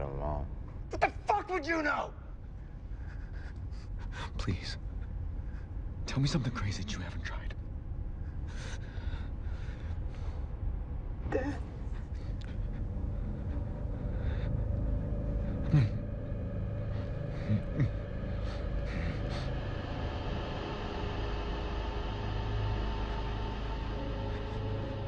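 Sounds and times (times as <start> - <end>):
low rumbling drone: 2.3 - 25.0.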